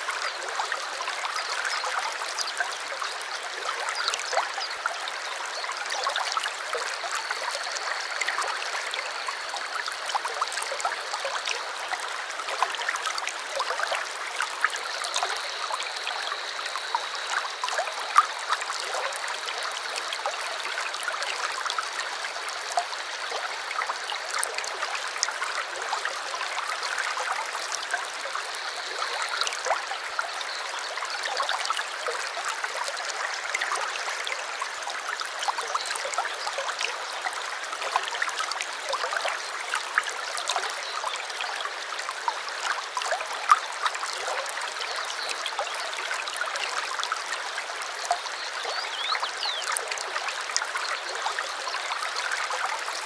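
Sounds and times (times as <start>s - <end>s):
stream trickling and babbling: 0.0s - 53.0s.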